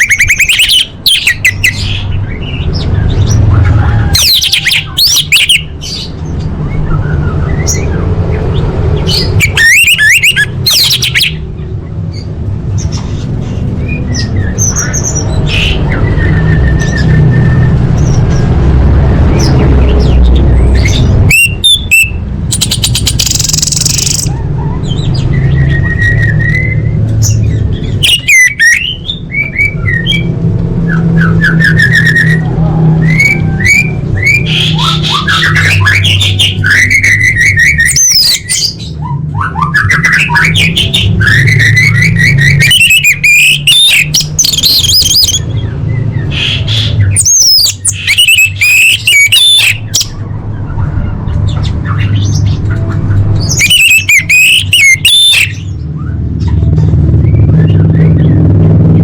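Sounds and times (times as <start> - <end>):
thrush singing whistles and trills: 0.0 - 13.0, 13.8 - 18.5, 19.4 - 52.6, 53.4 - 58.5.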